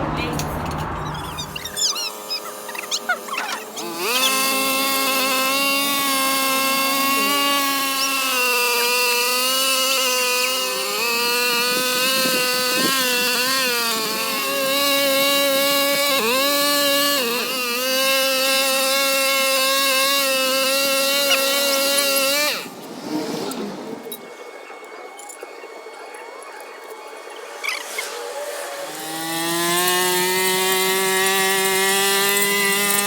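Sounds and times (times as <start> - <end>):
lawnmower engine whining: 0.0 - 33.0.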